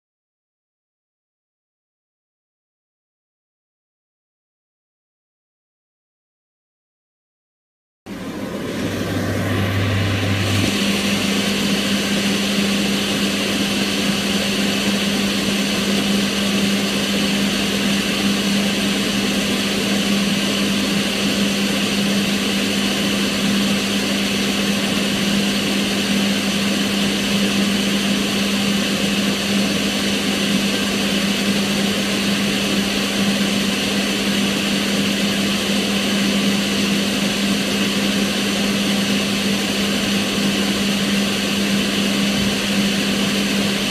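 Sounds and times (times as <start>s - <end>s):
extractor fan running: 8.1s - 43.9s.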